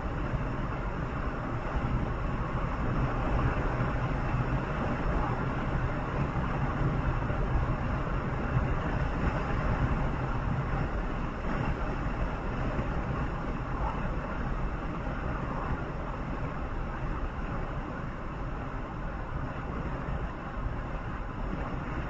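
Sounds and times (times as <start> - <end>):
tyre and wind noise: 0.0 - 22.0
vehicle engine hum: 0.0 - 22.0.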